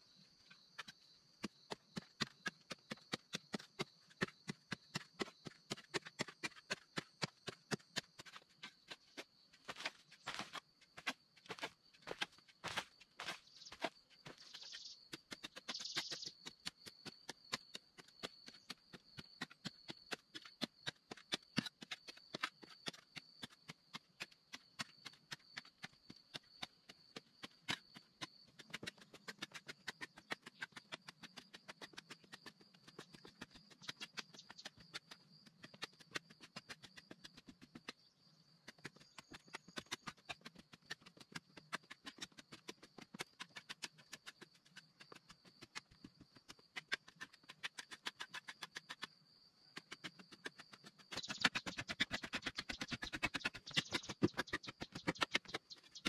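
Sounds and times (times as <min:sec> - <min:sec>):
hand tool chipping at earth wall: 0:00.5 - 0:56.0.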